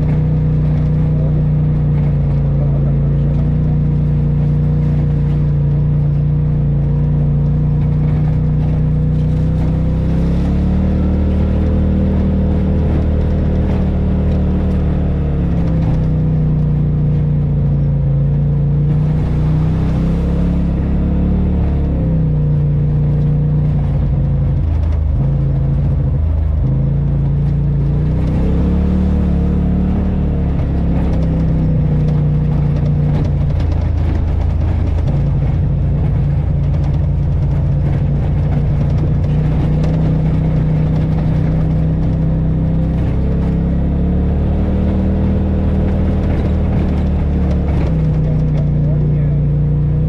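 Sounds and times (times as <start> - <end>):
drivetrain drone: 0.0 - 50.0
utility vehicle engine running: 0.0 - 50.0.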